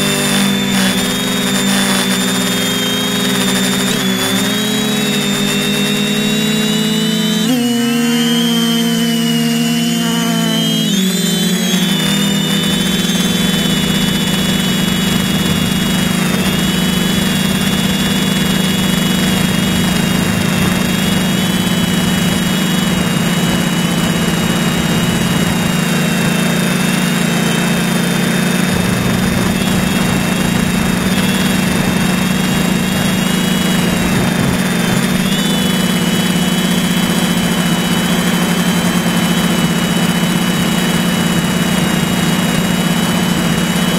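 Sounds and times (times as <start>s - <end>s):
drone motors and propellers: 0.0s - 43.9s.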